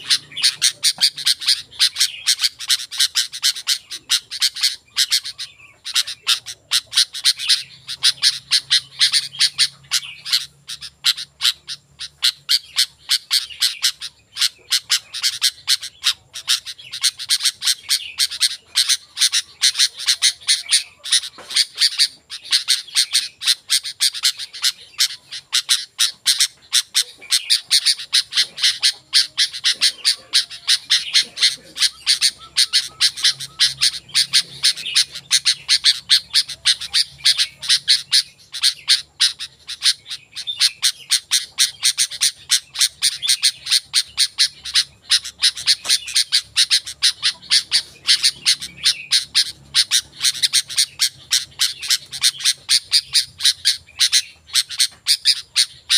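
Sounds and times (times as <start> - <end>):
bulbul chirping rapidly: 0.0 - 55.9.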